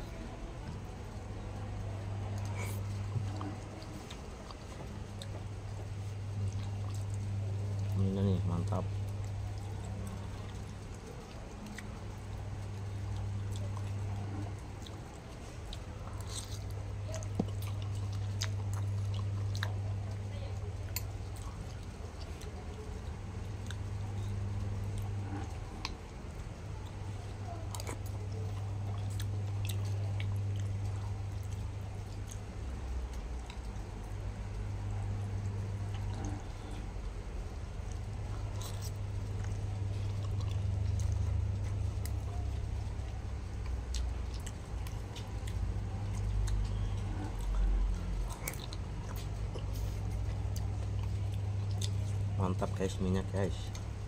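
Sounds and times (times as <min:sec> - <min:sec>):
man chewing noodles: 0:00.0 - 0:54.0
steady low hum: 0:00.0 - 0:54.0.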